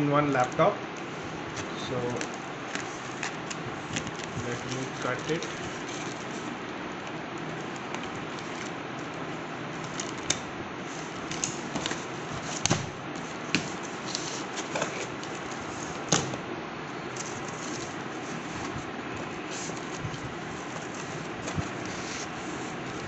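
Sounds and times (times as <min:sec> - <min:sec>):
steady hiss: 0:00.0 - 0:23.0
cardboard crackling and rustling: 0:00.2 - 0:16.4, 0:17.1 - 0:23.0.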